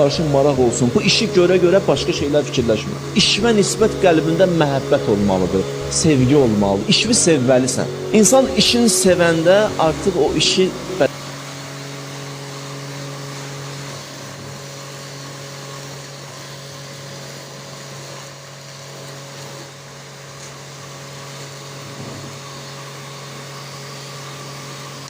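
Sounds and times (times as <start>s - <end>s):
machine humming and hissing: 0.0s - 25.0s.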